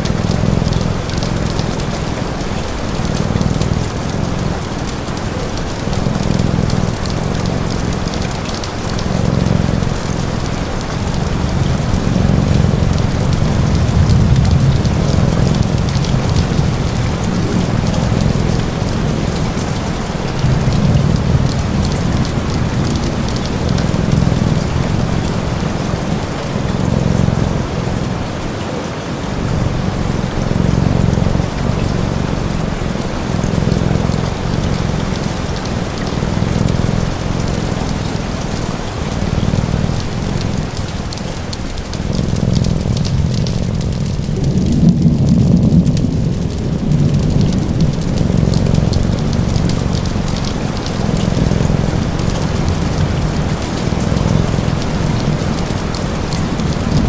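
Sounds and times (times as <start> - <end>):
fire crackling: 0.0 - 27.4, 30.4 - 57.0
cat purring: 0.0 - 28.6, 29.2 - 57.0
steady rain: 0.0 - 57.0.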